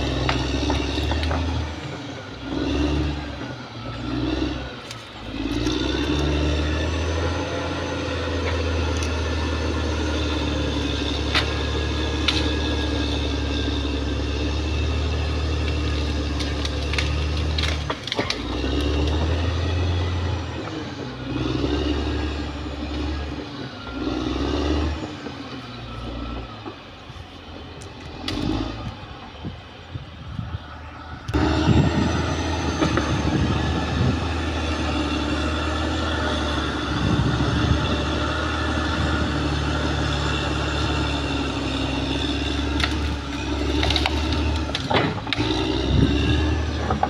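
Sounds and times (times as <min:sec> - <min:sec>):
bulldozer diesel engine under load: 0:00.0 - 0:47.0.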